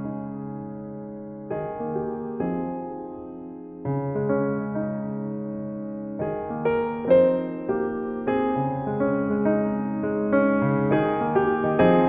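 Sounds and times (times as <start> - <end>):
background piano music: 0.0 - 12.0.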